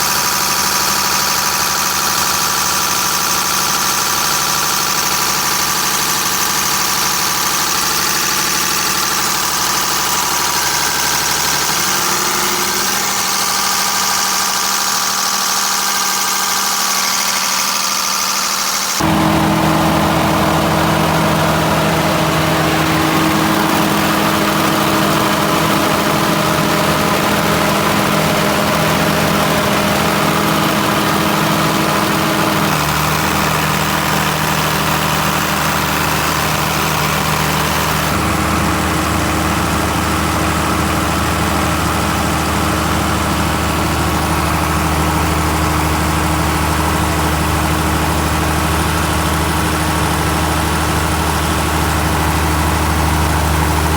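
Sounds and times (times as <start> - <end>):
diesel generator running: 0.0 - 53.9.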